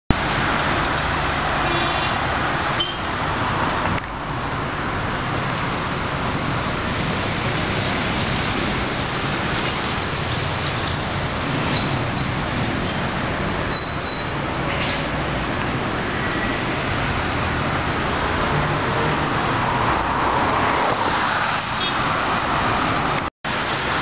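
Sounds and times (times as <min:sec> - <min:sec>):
city traffic: 0:00.1 - 0:24.0.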